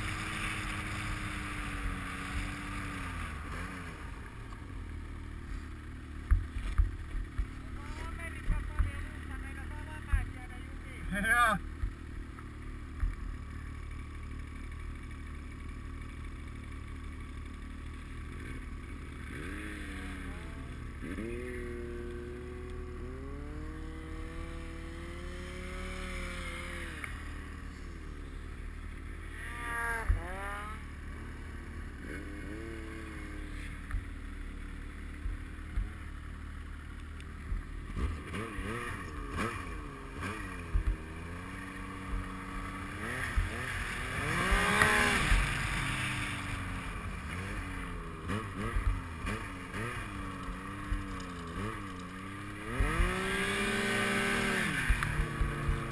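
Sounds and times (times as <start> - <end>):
snowmobile engine revving: 0.0 - 6.7, 7.3 - 11.6, 13.8 - 36.7, 37.7 - 55.9.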